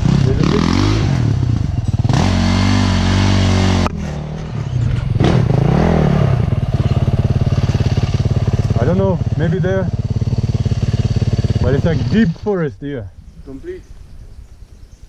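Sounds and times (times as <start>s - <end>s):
dirt bike engine revving: 0.0s - 12.7s.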